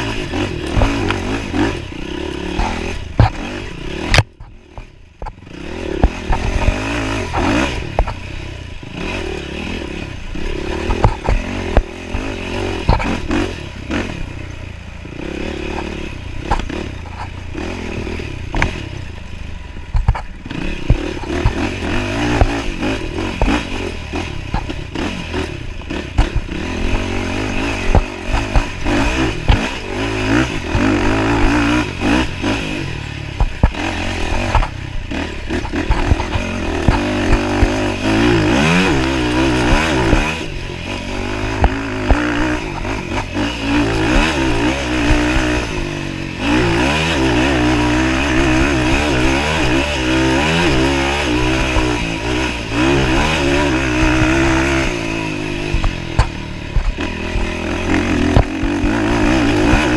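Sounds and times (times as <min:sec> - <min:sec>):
bike clattering over rough trail: 0:00.0 - 0:59.9
dirt bike engine revving: 0:00.0 - 0:59.9.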